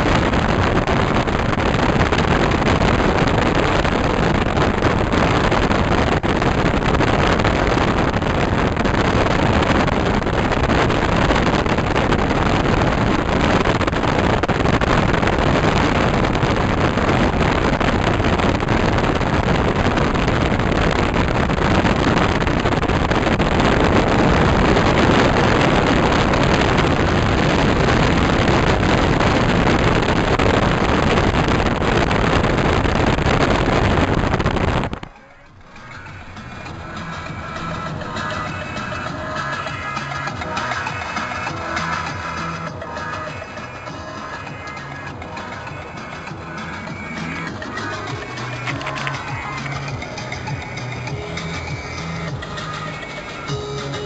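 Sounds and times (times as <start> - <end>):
wind buffeting microphone: 0.0 - 53.9
car wind and road rush: 0.0 - 54.0.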